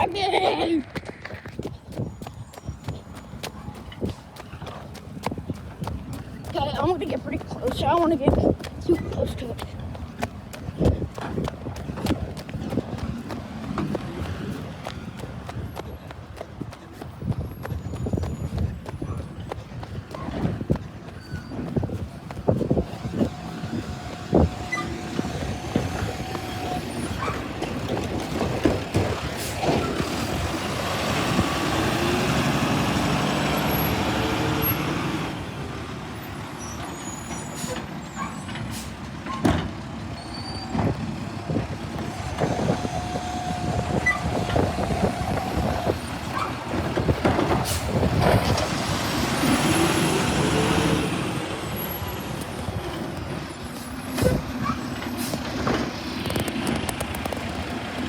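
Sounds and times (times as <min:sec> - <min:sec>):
diesel engine revving: 0:05.6 - 0:15.9, 0:19.2 - 0:58.0.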